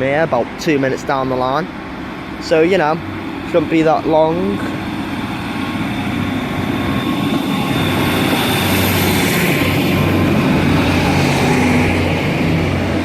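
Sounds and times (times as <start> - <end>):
diesel train engine droning: 0.0 - 13.0.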